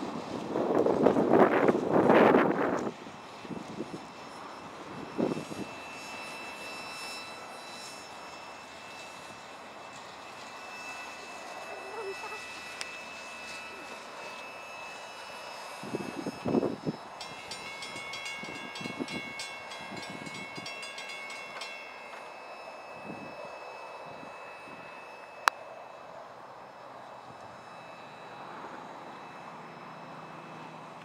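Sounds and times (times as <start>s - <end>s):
metallic wheel squealing: 4.1s - 31.0s.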